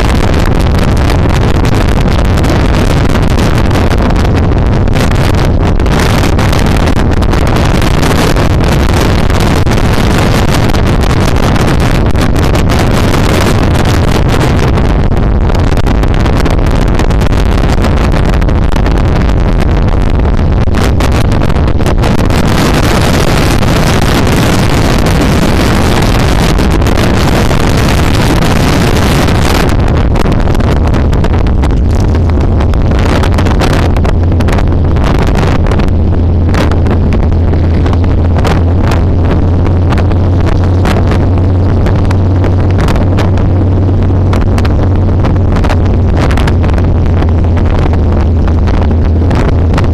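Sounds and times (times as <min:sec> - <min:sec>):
motorcycle engine droning: 0:00.0 - 0:49.9
wind noise on microphone: 0:00.0 - 0:49.9.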